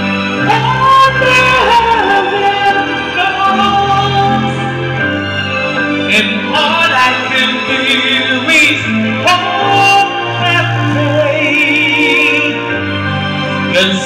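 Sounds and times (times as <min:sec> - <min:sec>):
person singing karaoke: 0:00.0 - 0:14.0.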